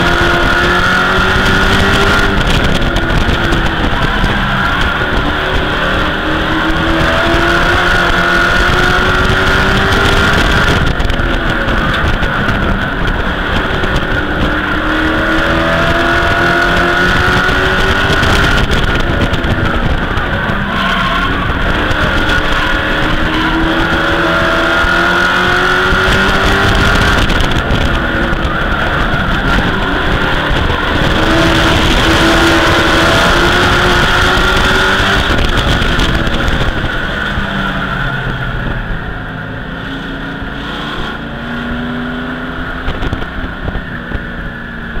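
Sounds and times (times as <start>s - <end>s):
steady rushing noise: 0.0s - 45.0s
truck engine at speed: 0.0s - 45.0s.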